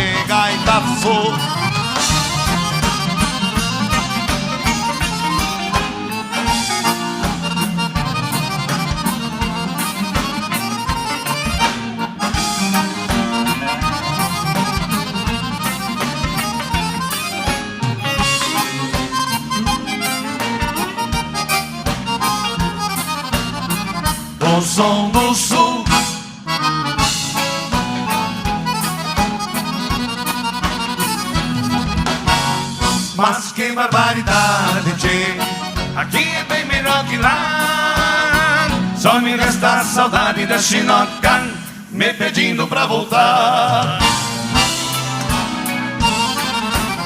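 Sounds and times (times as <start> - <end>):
steady drum beat: 0.0 - 42.7, 43.6 - 47.0
accordion melody: 0.0 - 47.0
bass: 0.0 - 47.0.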